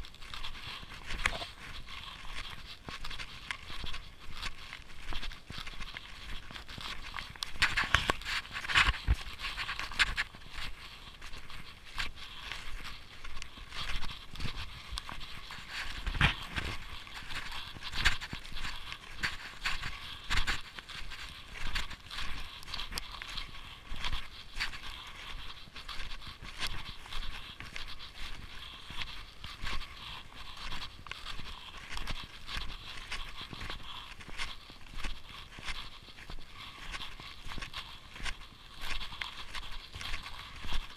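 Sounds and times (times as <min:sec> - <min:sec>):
snowshoe steps crunching in snow: 0:00.0 - 0:40.9.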